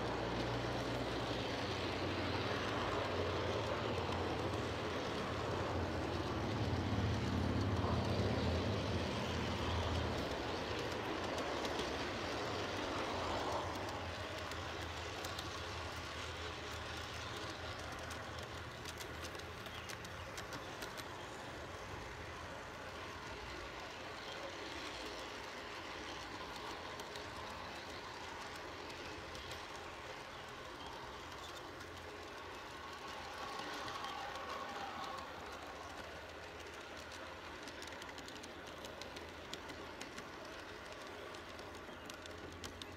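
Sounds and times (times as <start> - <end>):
model train wheels rumbling on rails: 0.0 - 42.9.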